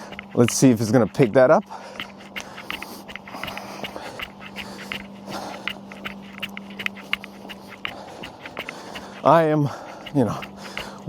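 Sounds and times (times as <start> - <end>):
jogging footsteps: 0.0 - 11.0
low machinery hum: 0.0 - 11.0.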